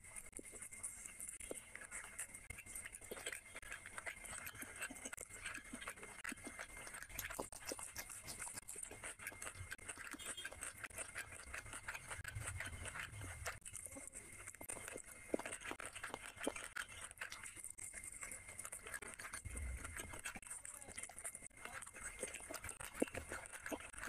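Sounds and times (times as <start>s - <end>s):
chewing with crunches: 0.0s - 24.0s.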